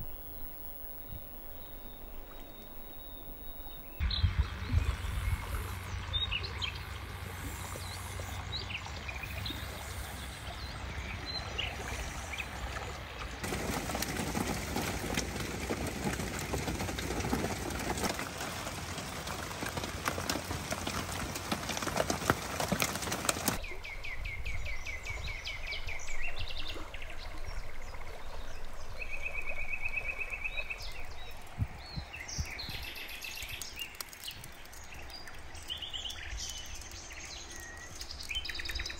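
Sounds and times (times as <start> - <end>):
birds calling and singing: 0.0 - 38.9.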